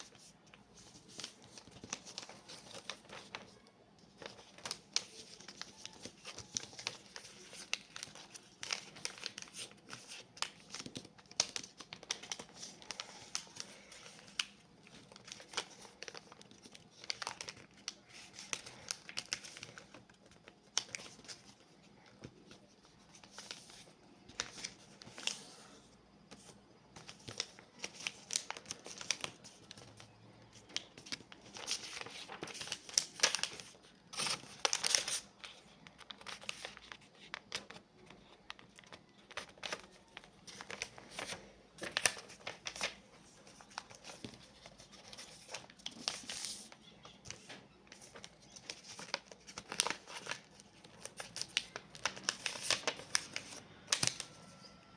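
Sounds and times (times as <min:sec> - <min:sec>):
paper crackling at folds: 0:00.0 - 0:54.9
paper rustling and crinkling: 0:00.0 - 0:54.9.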